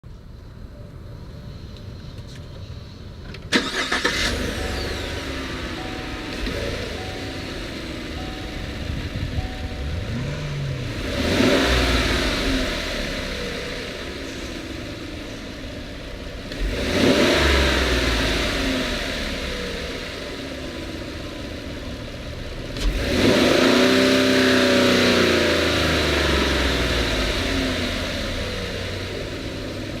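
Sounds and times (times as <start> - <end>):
pickup engine idling and revving: 2.7 - 30.0.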